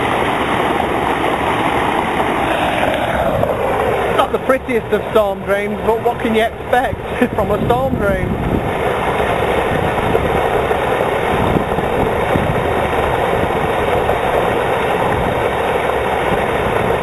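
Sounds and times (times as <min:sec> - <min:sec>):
water rushing through storm drain: 0:00.0 - 0:17.0.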